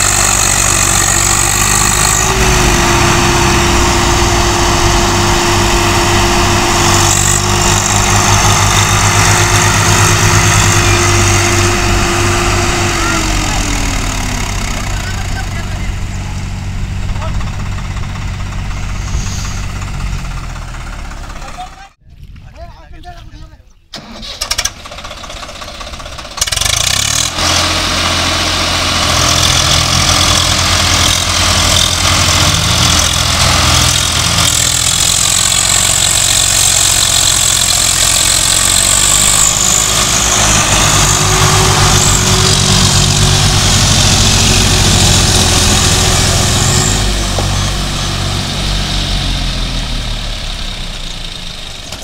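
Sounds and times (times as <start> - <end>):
tractor diesel engines under load: 0.0 - 52.0.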